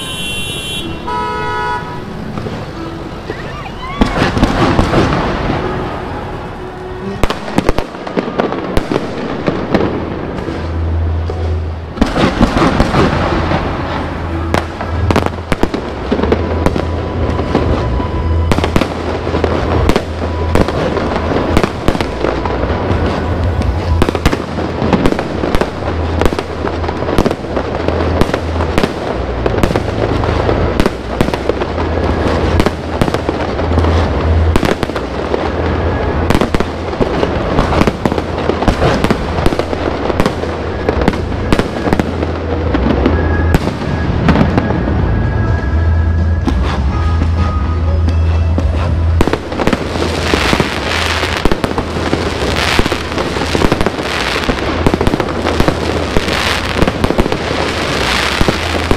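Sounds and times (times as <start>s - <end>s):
fireworks bangs and crackles: 0.0s - 58.9s
music playing: 0.0s - 58.9s.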